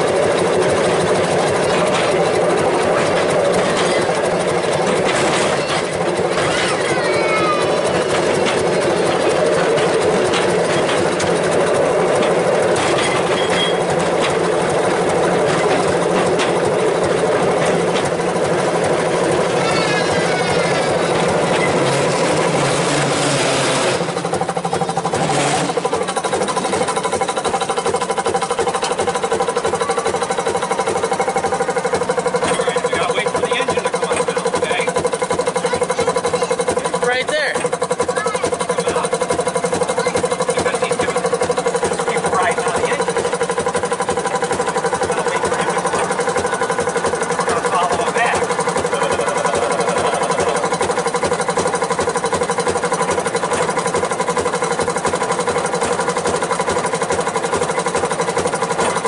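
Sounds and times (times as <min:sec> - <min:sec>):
train diesel engine running: 0:00.0 - 0:59.0
train rolling on tracks: 0:00.0 - 0:59.0.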